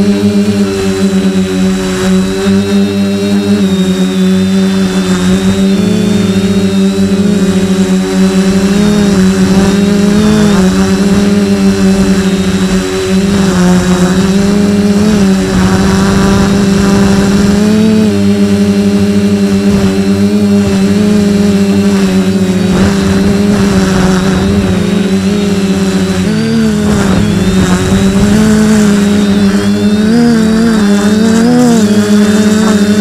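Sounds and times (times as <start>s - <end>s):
quadcopter motors humming: 0.0s - 33.0s.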